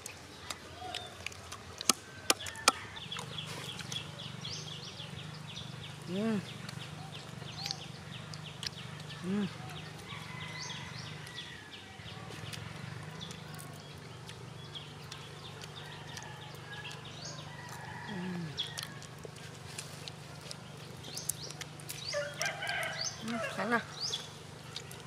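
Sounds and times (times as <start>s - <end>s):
nuts being shelled and chewed: 0.0s - 4.1s, 6.5s - 11.6s, 12.3s - 25.0s.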